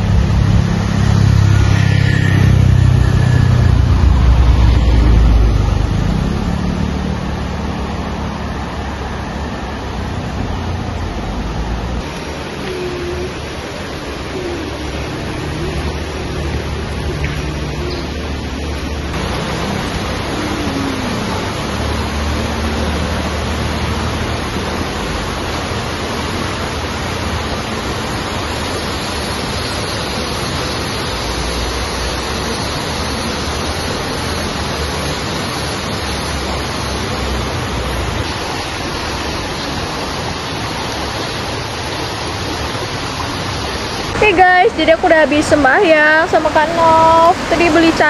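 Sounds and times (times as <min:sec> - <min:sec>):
river water rushing over rapids: 0:00.0 - 0:48.0.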